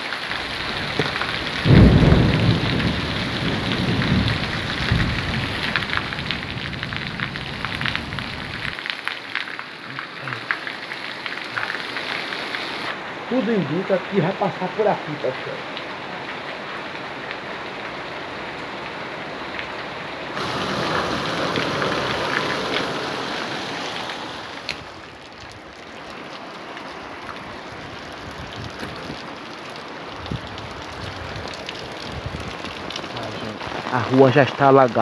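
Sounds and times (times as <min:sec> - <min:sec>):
heavy rain: 0:00.0 - 0:35.0.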